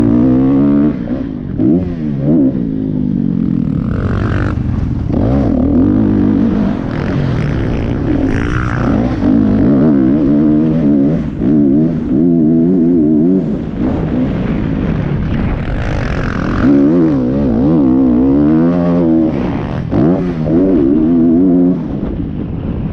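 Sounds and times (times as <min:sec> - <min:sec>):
dirt bike engines revving: 0:00.0 - 0:22.2.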